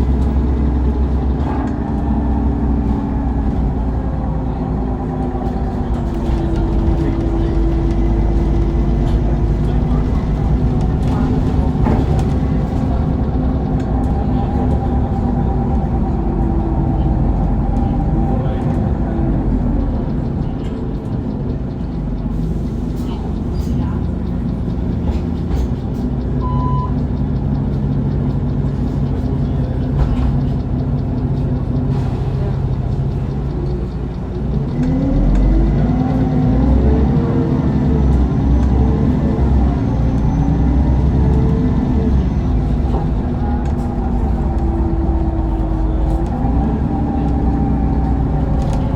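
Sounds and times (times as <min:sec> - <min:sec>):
bus engine rumbling: 0:00.0 - 0:48.9.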